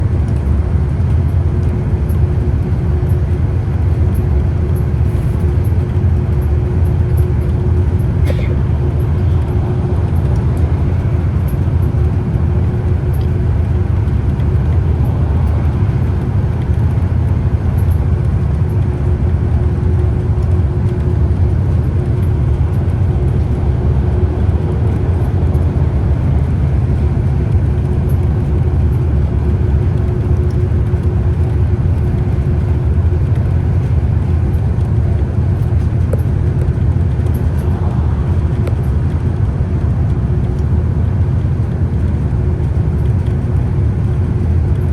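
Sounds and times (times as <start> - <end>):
bus engine and road noise: 0.0 - 44.9.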